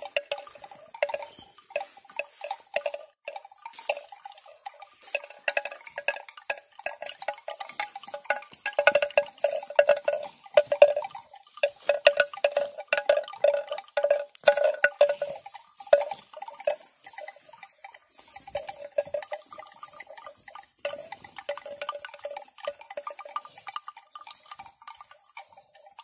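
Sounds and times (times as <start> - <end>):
bell clanking: 0.0 - 26.0.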